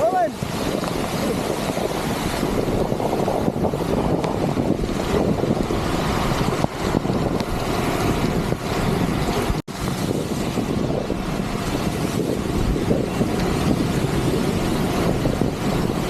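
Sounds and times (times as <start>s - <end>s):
heavy rain: 0.0s - 16.0s
wet road noise: 0.0s - 16.0s
wind buffeting microphone: 0.0s - 16.0s.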